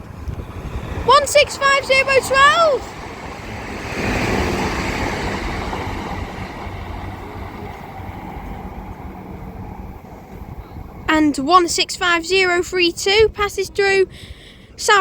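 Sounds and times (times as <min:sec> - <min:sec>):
rumble of train wheels and engines: 0:00.0 - 0:15.0
train passing: 0:00.0 - 0:15.0.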